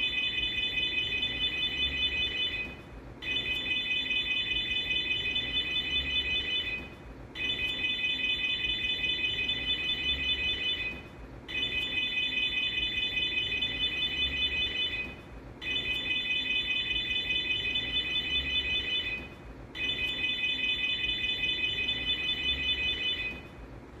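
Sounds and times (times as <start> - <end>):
pulsing car alarm siren: 0.0 - 23.5.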